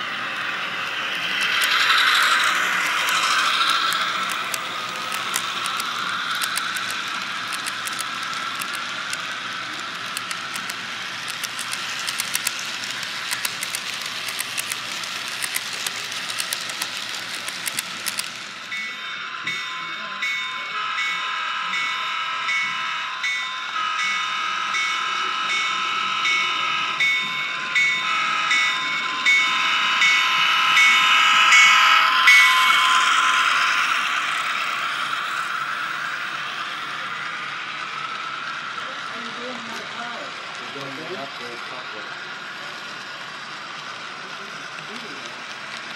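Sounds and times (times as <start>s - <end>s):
model train wheels clicking: 0.0s - 19.8s, 24.7s - 45.9s.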